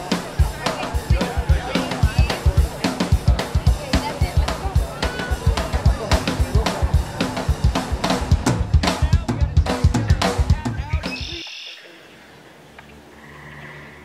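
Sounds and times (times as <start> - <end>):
fast drum-kit beat: 0.0 - 11.4.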